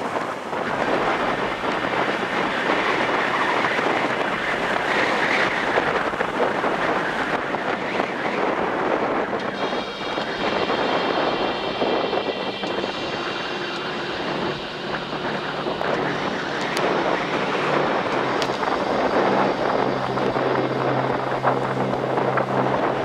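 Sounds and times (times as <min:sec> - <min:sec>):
engine drone: 0:00.0 - 0:23.0
wind rushing over microphone: 0:00.0 - 0:23.0.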